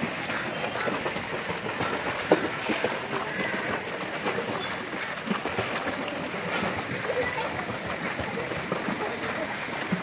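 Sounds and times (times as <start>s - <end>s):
water splashing from kicking: 0.0s - 10.0s.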